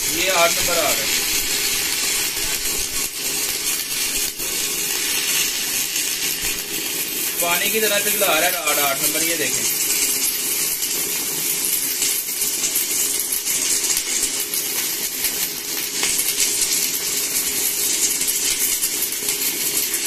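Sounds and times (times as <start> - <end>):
welding arc crackling and sizzling: 0.0 - 20.0.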